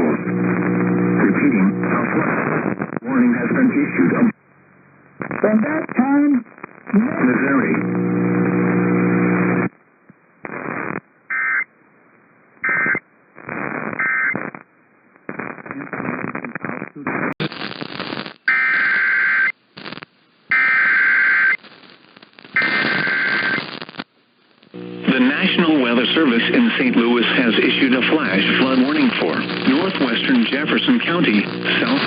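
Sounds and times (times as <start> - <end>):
radio static: 0.0 - 4.4, 5.2 - 9.8, 10.4 - 11.7, 12.6 - 32.0.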